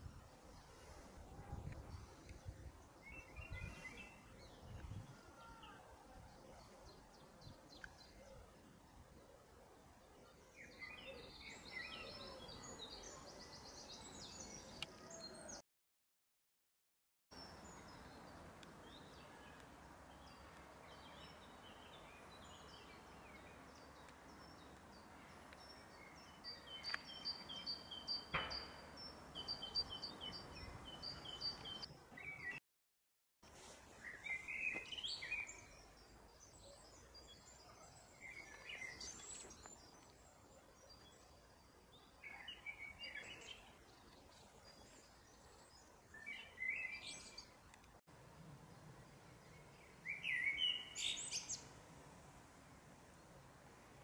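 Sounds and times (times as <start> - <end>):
songbirds singing and calling: 0.0 - 9.3, 10.0 - 15.6, 17.4 - 32.6, 33.9 - 48.0, 48.6 - 51.8.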